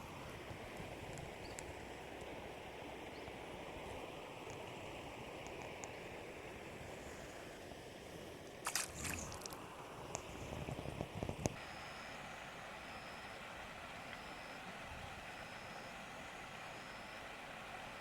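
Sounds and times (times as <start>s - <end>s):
river water flowing: 0.0s - 10.6s, 11.6s - 18.0s.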